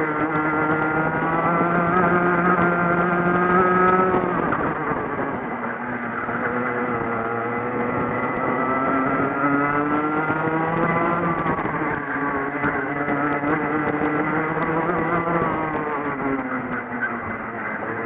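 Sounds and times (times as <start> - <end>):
kart engine revving: 0.0 - 18.0
other kart engines: 0.0 - 18.0.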